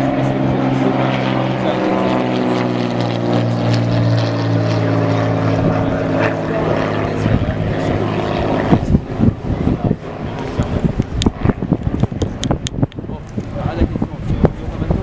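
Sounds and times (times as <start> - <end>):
propeller airplane engine drone: 0.0 - 15.0
wind gusts on microphone: 0.0 - 15.0.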